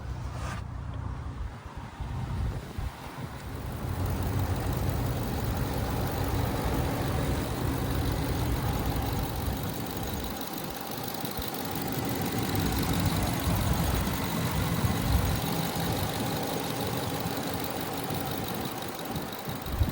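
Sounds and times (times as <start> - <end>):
engine idling: 1.2 - 19.9.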